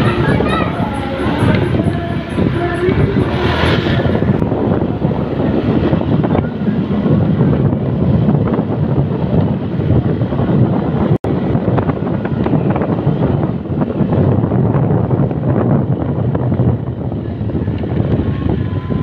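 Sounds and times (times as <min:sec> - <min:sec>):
road and vehicle noise: 0:00.0 - 0:19.0
wind buffeting microphone: 0:00.0 - 0:19.0.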